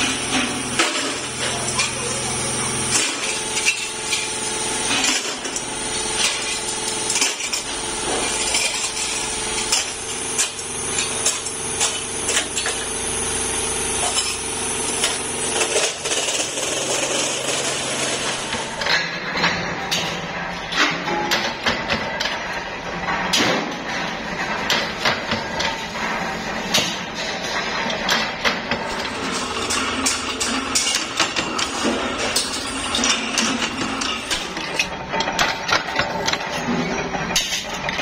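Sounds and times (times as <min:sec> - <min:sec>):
workshop machine hum: 0:00.0 - 0:38.0.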